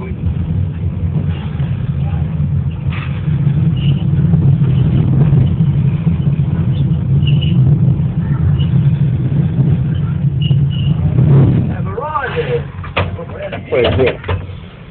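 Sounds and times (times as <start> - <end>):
diesel locomotive engine drone: 0.0 - 14.9.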